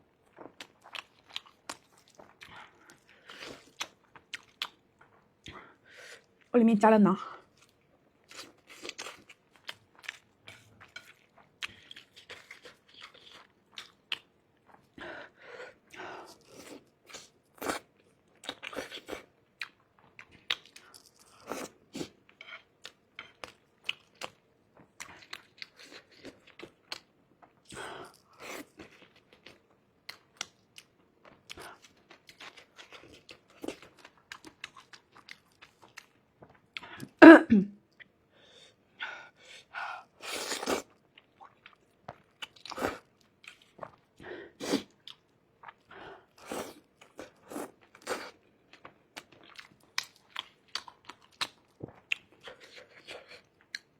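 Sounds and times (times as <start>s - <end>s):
person chewing food: 0.1s - 6.5s, 7.4s - 37.2s, 37.9s - 53.9s.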